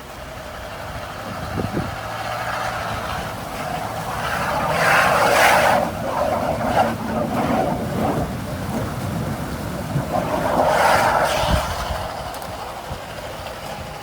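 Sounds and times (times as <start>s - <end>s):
vehicle engine running hard: 0.0s - 14.0s
wheels churning and splashing water: 0.0s - 14.0s.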